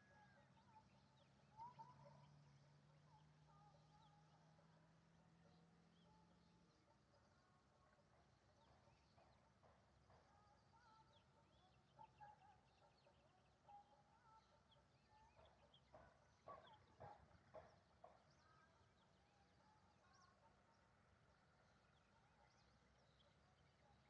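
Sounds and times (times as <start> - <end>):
faint bird calls and chirps: 0.0 - 24.0
quiet outdoor ambience: 0.0 - 24.0.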